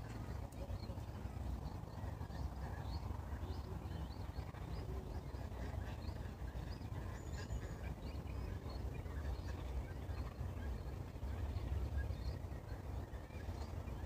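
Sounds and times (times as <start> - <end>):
songbirds chirping: 0.0 - 14.0
steady low rumble: 0.0 - 14.0.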